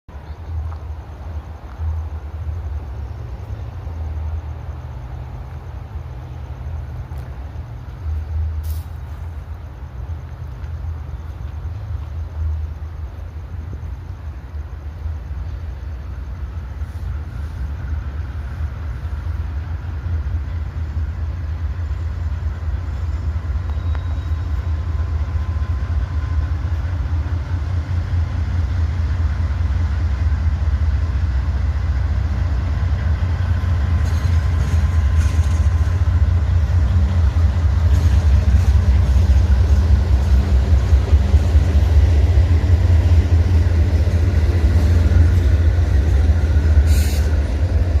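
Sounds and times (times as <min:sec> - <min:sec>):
diesel locomotive engine rumble: 0:00.1 - 0:48.0.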